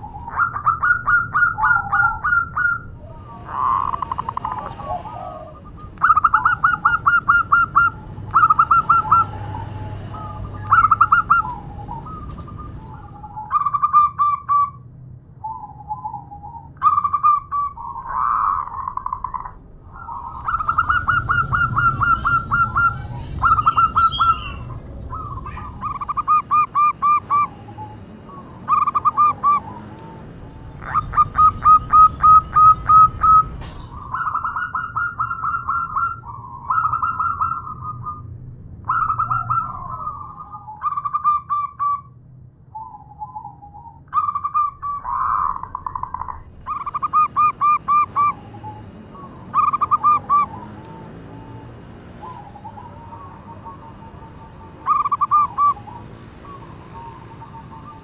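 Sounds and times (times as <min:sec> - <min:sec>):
dove cooing: 0:00.0 - 0:14.8, 0:15.4 - 0:38.3, 0:38.9 - 0:42.1, 0:42.8 - 0:58.0.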